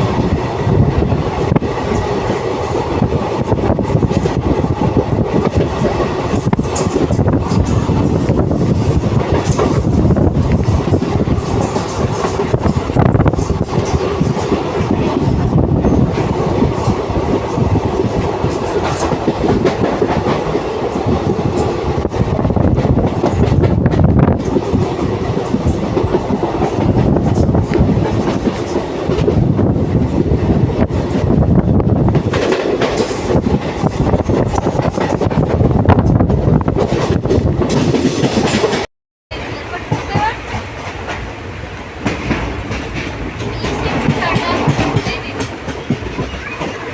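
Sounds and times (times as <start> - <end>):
train rumbling: 0.0 - 46.9
wheels clacking over rail joints: 1.3 - 46.9.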